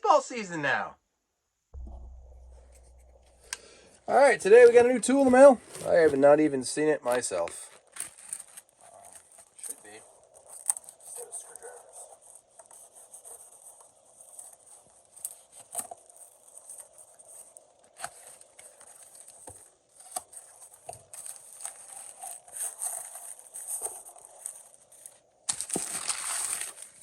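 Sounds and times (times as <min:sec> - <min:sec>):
paper and cardboard rustling: 0:05.1 - 0:27.0.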